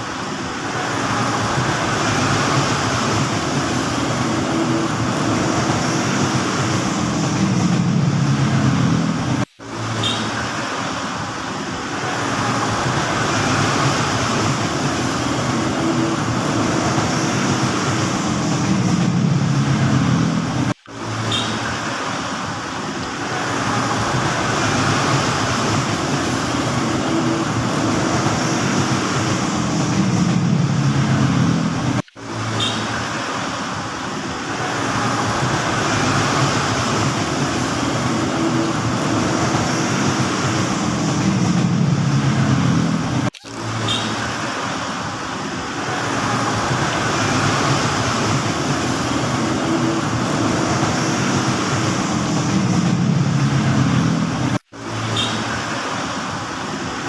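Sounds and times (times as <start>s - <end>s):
mechanical hum and rumble: 0.0s - 56.5s.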